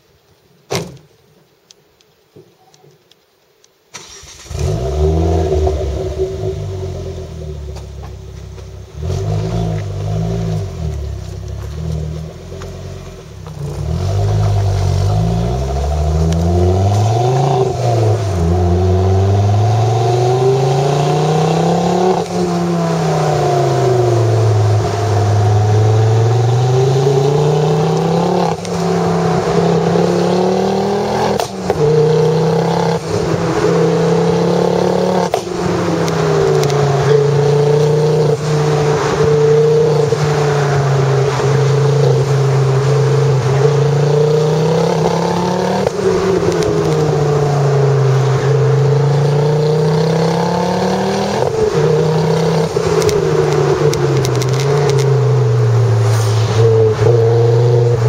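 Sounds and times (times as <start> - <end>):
car engine starting: 3.9 - 58.0
car engine accelerating: 4.0 - 58.0
car engine idling and revving: 4.0 - 58.0.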